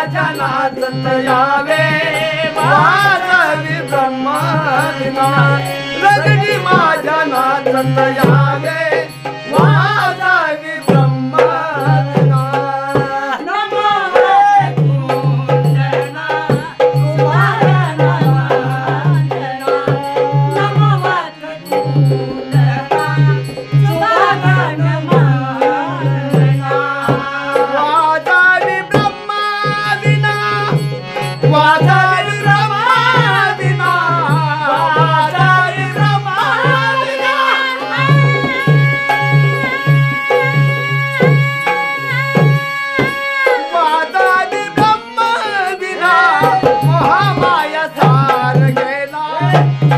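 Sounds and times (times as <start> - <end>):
harmonium drone: 0.0 - 49.9
man singing with chorus: 0.0 - 49.9.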